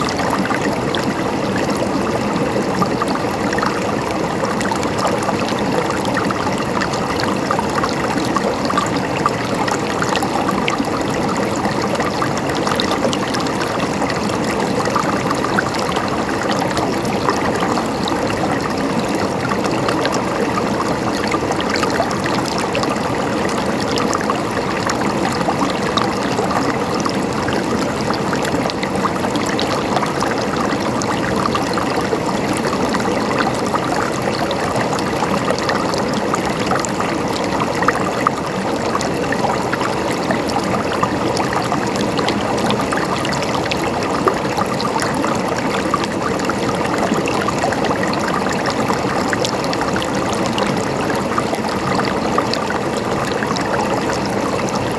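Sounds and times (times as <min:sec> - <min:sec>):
stream water flowing over rocks: 0:00.0 - 0:54.9.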